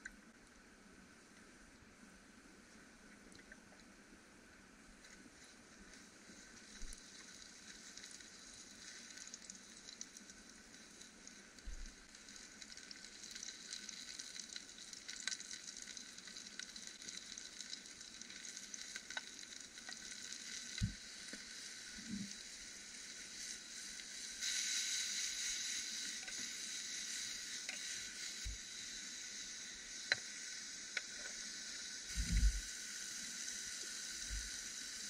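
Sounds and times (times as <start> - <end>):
mushrooms sizzling in a frying pan: 5.0 - 35.0.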